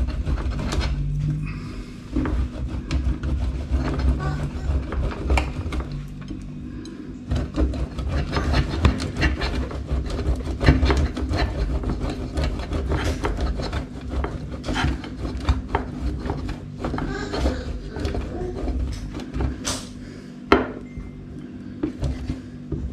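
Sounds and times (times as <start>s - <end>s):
cheese grating on metal grater: 0.0s - 6.1s, 7.2s - 19.6s.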